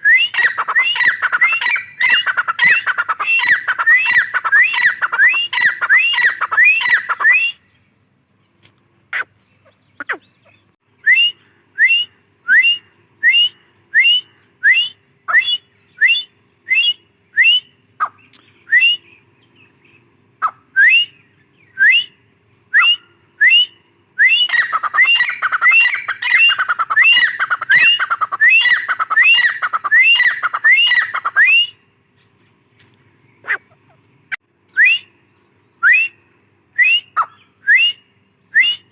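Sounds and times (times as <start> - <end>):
francolin calling: 0.0 - 7.7, 9.1 - 19.2, 20.4 - 31.8, 32.8 - 35.2.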